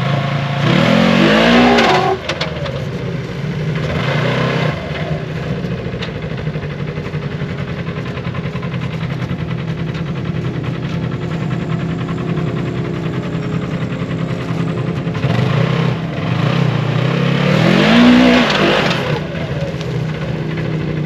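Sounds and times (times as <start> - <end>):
utility vehicle engine revving: 0.0 - 21.0.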